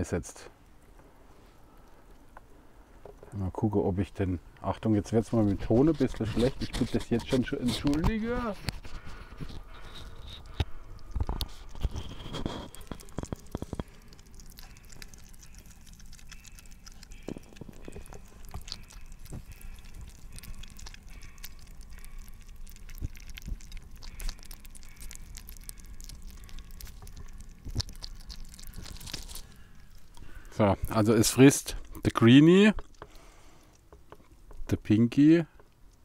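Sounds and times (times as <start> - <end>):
hedgehogs chewing: 0.0 - 36.0.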